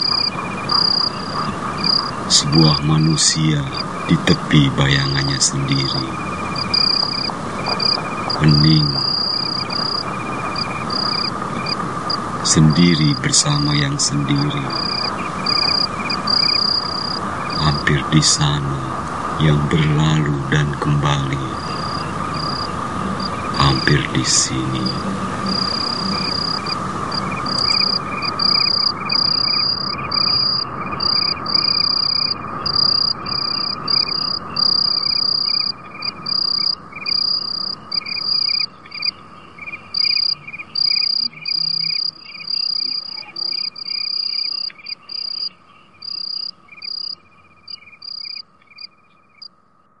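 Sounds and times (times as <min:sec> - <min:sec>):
steady high hum: 0:00.0 - 0:48.7
crickets chirping: 0:00.0 - 0:50.0.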